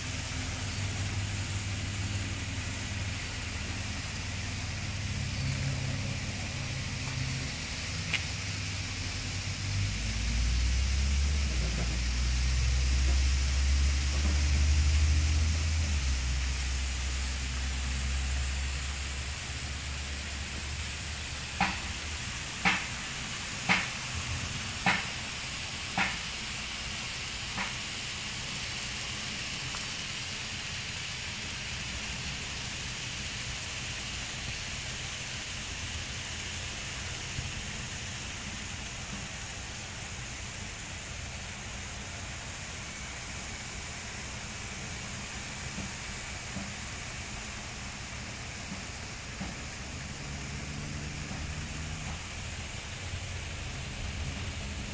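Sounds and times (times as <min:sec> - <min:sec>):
even hiss: 0:00.0 - 0:54.9
model train whirring: 0:00.0 - 0:54.9.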